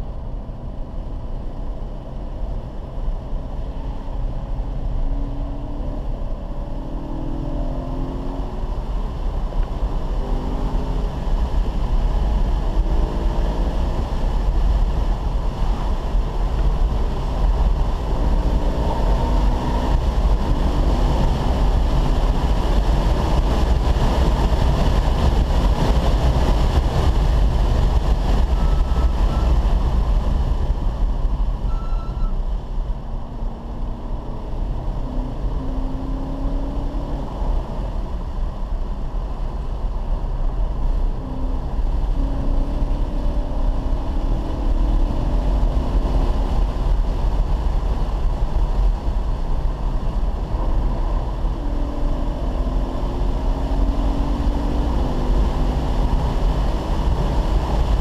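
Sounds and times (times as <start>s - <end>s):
car engine rumble: 0.0s - 58.0s
road noise inside car: 0.0s - 58.0s.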